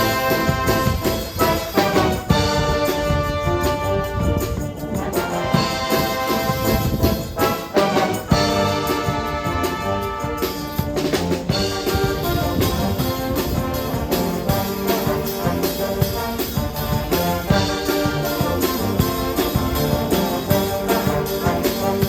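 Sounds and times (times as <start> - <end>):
brass instruments playing: 0.0 - 22.0
drum beat: 0.0 - 22.0.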